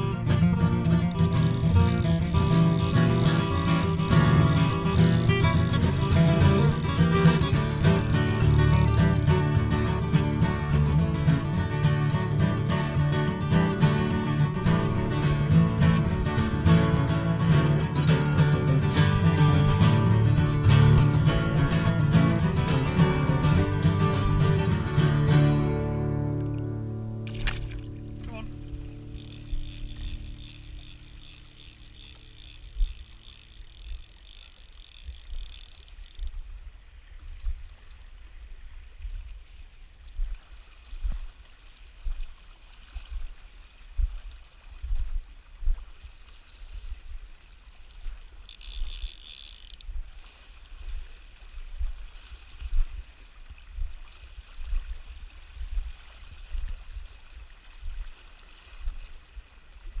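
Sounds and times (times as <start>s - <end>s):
river water sloshing: 0.0s - 60.0s.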